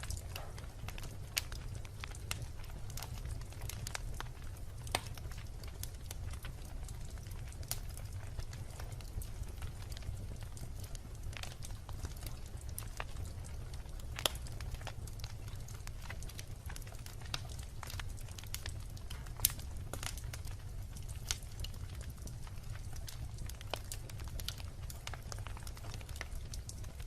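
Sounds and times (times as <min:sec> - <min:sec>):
bonfire crackling and popping: 0:00.0 - 0:27.0.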